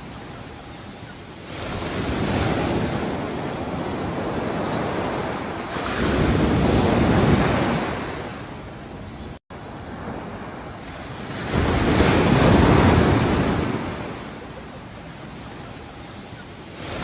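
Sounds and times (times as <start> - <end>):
ocean waves washing onto shore: 0.0 - 17.0.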